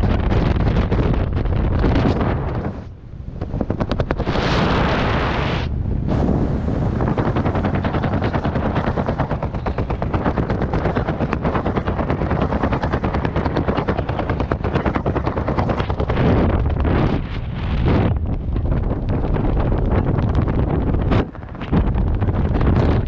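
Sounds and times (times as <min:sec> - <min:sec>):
fabric flapping in wind: 0:00.0 - 0:23.0
heavy wind rush: 0:00.0 - 0:23.0.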